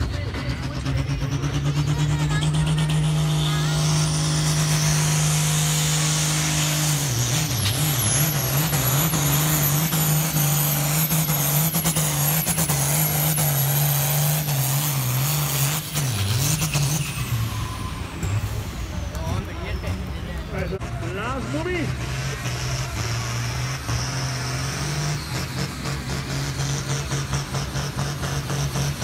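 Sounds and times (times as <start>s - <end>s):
tractor diesel engine labouring: 0.0s - 29.0s.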